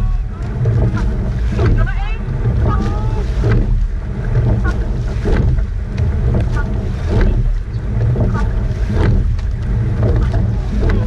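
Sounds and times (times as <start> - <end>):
oar blades splashing: 0.0 - 11.0
wind buffeting microphone: 0.0 - 11.0.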